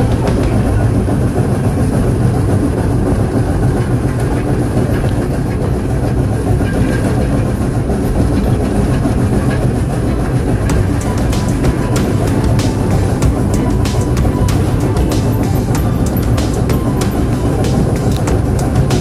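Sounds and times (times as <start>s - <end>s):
steam train low rumble: 0.0s - 19.0s
wheels clattering on rails: 0.0s - 19.0s.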